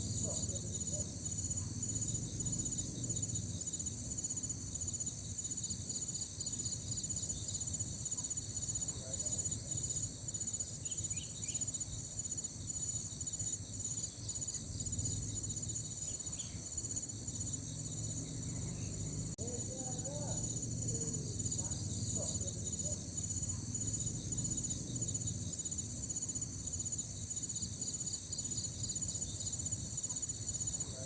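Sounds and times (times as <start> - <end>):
insects chirping in trills: 0.0 - 31.0.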